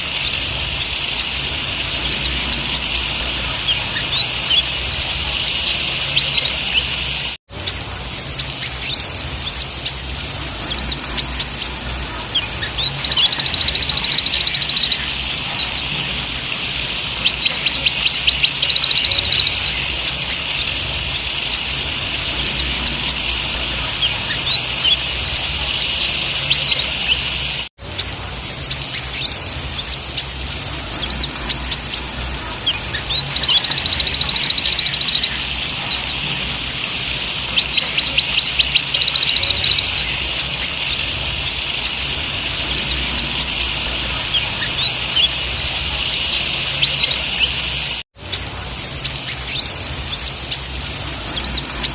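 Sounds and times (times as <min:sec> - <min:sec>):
steady high hiss: 0:00.0 - 0:51.9
sunbird singing chirps and trills: 0:00.0 - 0:51.9.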